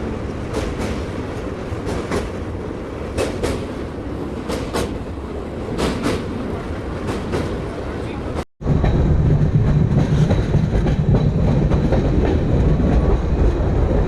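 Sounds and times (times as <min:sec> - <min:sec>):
train rolling rumble: 0:00.0 - 0:14.0
train wheels clicking on rail joints: 0:00.0 - 0:14.0.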